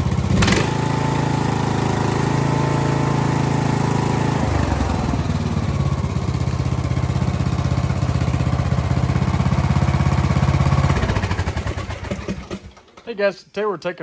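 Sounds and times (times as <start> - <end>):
lawn tractor engine idling: 0.0 - 13.3.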